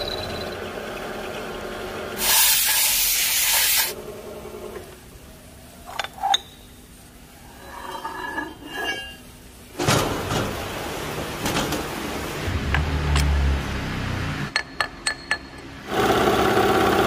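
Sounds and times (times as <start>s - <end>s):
steady workshop noise: 0.0s - 17.0s.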